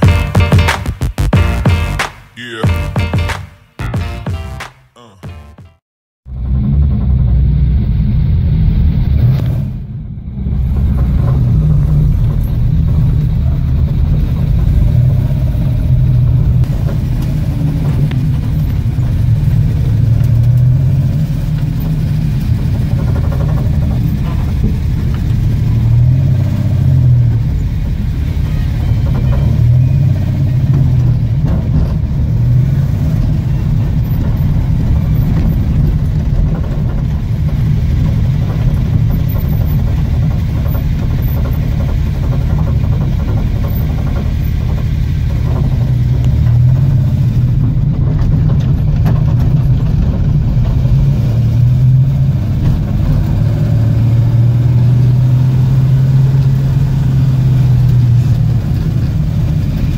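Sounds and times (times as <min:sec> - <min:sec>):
race car engine rumbling: 0:06.4 - 0:59.9.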